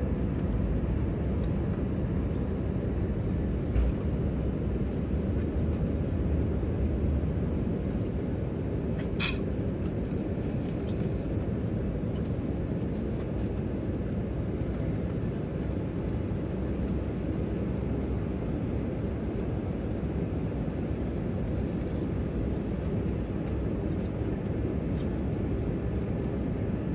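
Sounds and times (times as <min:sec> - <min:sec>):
jet engine cabin noise: 0:00.0 - 0:26.9.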